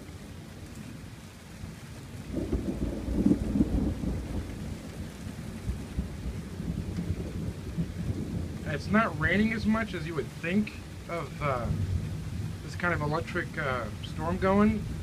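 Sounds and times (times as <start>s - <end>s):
light rain hissing: 0.0s - 15.0s
thunder rumbling: 0.0s - 15.0s.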